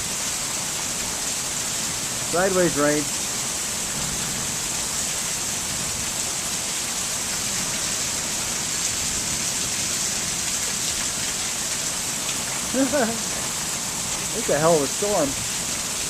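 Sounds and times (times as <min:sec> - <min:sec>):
heavy rain in wind: 0:00.0 - 0:16.0.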